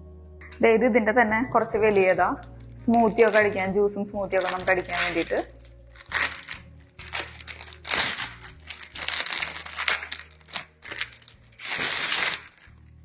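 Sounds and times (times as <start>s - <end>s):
packaging rustling and crinkling: 2.4s - 12.9s.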